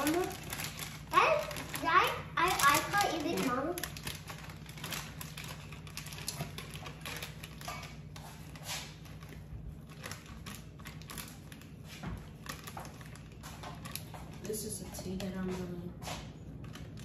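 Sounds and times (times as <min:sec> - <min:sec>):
small crackles and taps: 0:00.0 - 0:15.8
flour bag rustling: 0:00.0 - 0:17.0.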